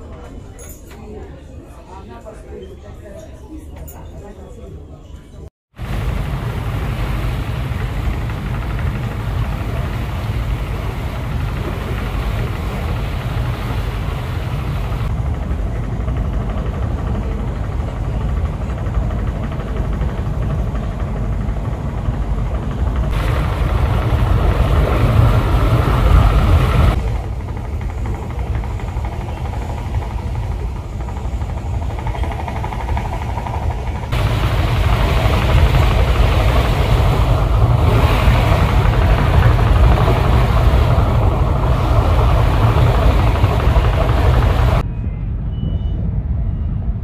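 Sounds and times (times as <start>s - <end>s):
ship engine rumble: 5.7s - 45.4s.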